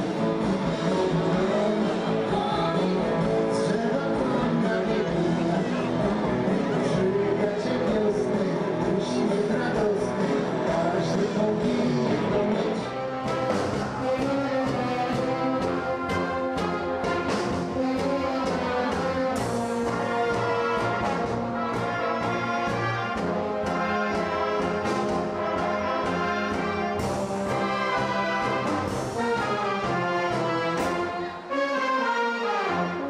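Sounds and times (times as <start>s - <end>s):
brass instruments playing: 0.0s - 33.0s.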